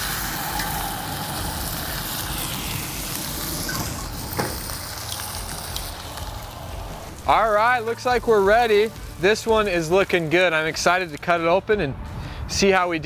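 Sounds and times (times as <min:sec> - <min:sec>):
steak sizzling in skillet: 0:00.0 - 0:11.4.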